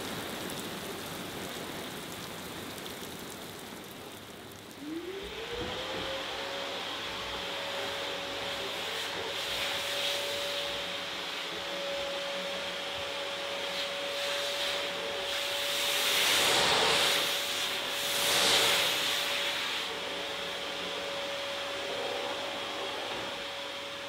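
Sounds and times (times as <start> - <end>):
vacuum cleaner whining: 4.7 - 24.0.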